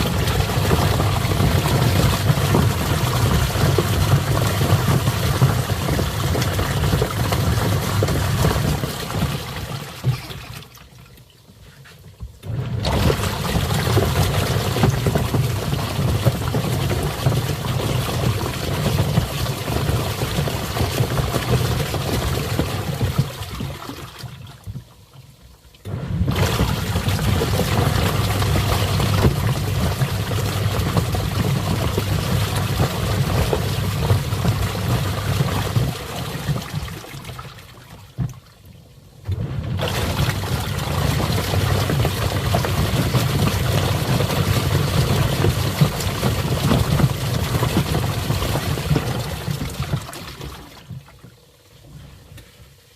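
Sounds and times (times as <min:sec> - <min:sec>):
washing machine motor hum: 0:00.0 - 0:11.2, 0:12.2 - 0:38.4, 0:39.1 - 0:52.4
water churning and sloshing: 0:00.0 - 0:52.9.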